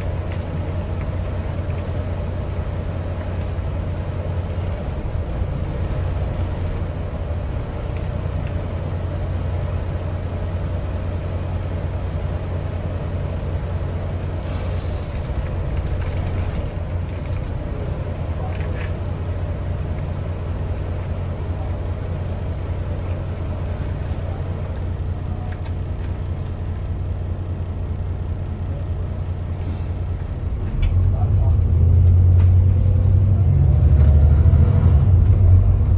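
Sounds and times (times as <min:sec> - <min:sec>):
bus engine humming: 0:00.0 - 0:35.9.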